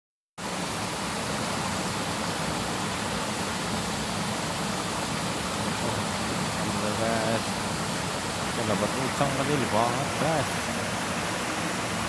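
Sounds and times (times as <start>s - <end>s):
water rushing in a channel: 0.4s - 12.0s.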